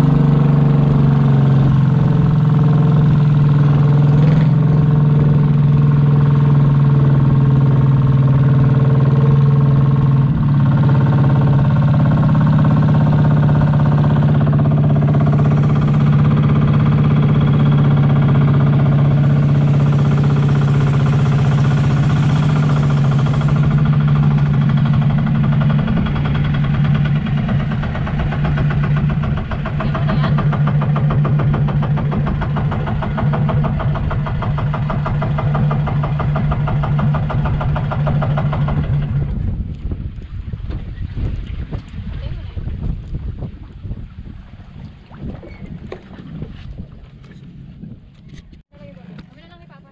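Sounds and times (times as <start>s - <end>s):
boat engine chugging: 0.0s - 49.9s.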